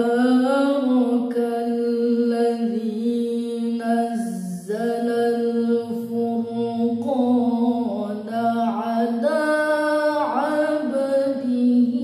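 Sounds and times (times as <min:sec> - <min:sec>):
woman chanting recitation: 0:00.0 - 0:12.0.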